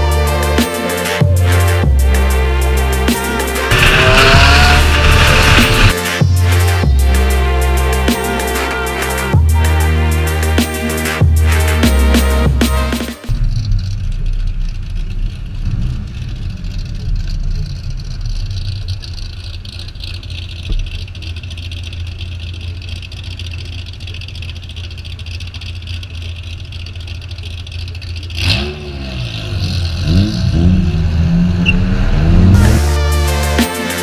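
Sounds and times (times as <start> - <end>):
car engine idling: 0.0 - 34.0
engine revving: 0.0 - 34.0.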